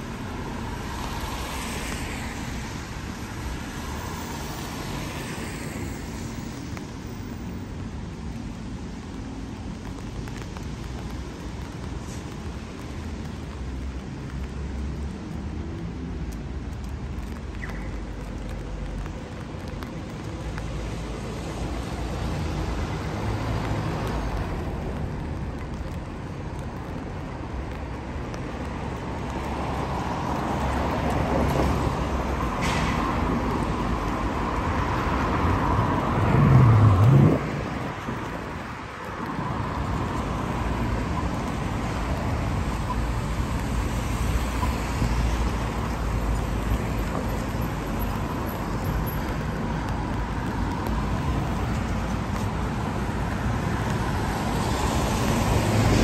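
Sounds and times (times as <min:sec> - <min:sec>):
cars passing on wet road: 0:00.0 - 0:56.0.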